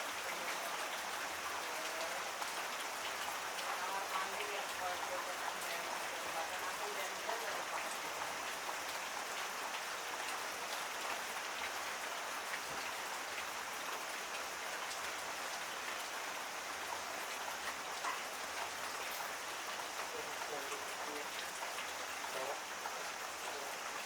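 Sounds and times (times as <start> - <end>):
heavy rain falling: 0.0 - 24.0
raindrops ticking on surfaces: 0.0 - 24.0.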